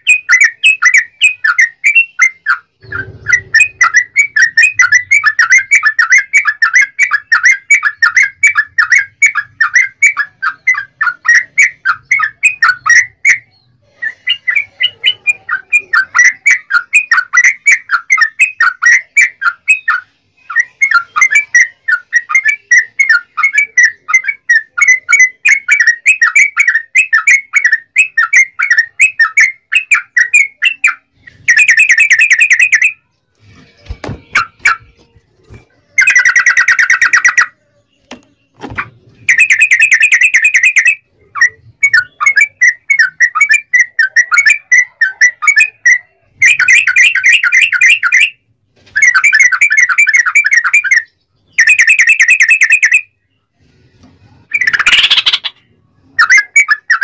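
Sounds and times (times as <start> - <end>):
bird singing rapid chirping song: 0.0 - 53.5, 54.4 - 57.0.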